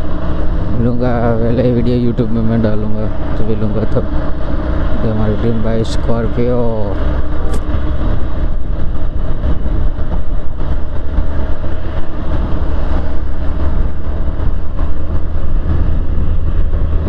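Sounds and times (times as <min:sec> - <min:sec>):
motorcycle engine: 0:00.0 - 0:17.0
road rumble: 0:00.0 - 0:17.0
wind on microphone: 0:00.0 - 0:17.0.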